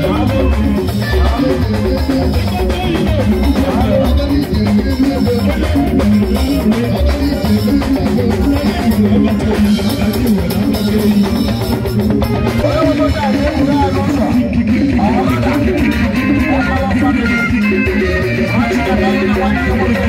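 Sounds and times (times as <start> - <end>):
drums: 0.0 - 20.0
electric guitar: 0.0 - 20.0.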